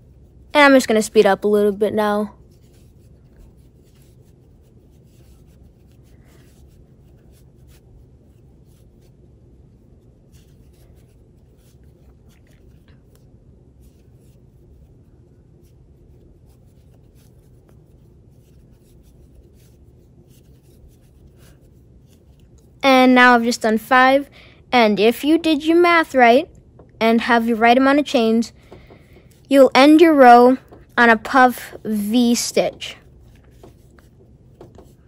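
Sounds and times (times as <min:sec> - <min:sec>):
crochet hook rubbing yarn: 0:00.0 - 0:24.1, 0:29.0 - 0:35.0
low steady hum: 0:00.0 - 0:35.0.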